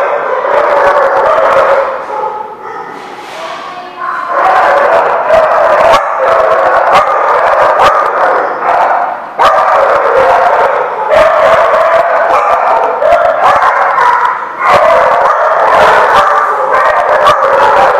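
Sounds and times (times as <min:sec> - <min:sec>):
small dogs barking: 0:00.0 - 0:17.9.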